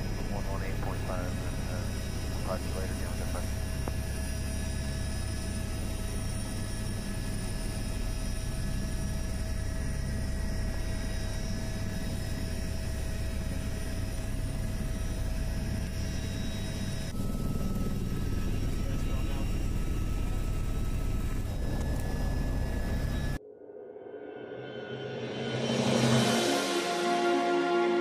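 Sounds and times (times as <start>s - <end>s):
helicopter engine and rotor drone: 0.0s - 23.4s
whining tones: 0.0s - 23.4s.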